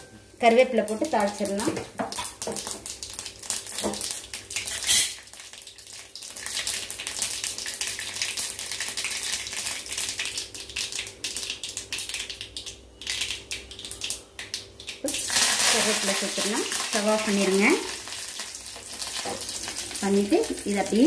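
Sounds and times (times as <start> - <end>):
seeds popping in hot oil: 0.5 - 21.0.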